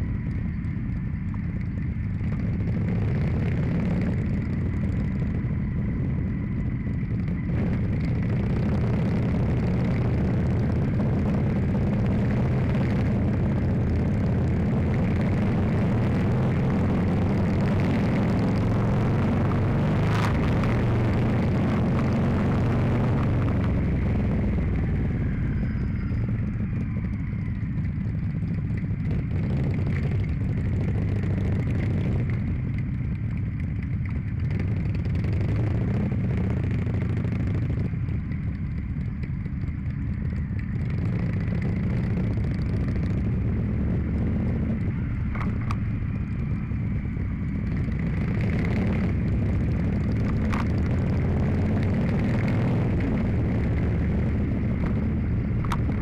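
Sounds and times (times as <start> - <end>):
motorcycle engines running: 0.0 - 56.0
wind rushing over microphone: 2.0 - 27.5, 34.2 - 38.3, 40.4 - 56.0.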